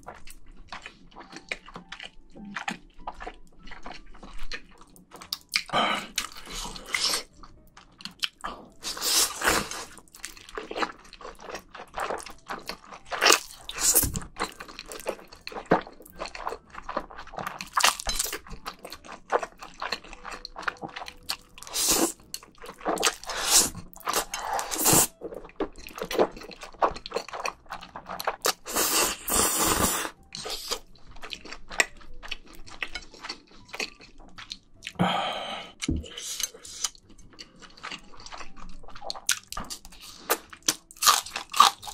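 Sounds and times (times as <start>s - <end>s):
wet chewing: 0.0s - 41.9s.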